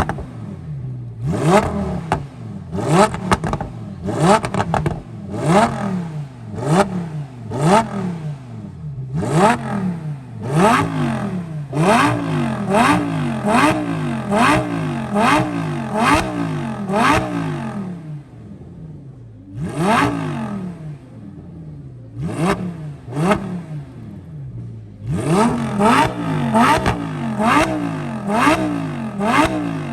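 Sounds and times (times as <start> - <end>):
car engine idling: 0.0 - 29.9
sports car engine revving: 0.0 - 29.9.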